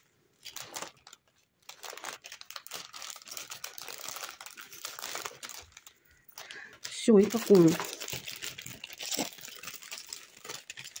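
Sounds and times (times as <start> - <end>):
cellophane bag crinkling: 0.3 - 11.0.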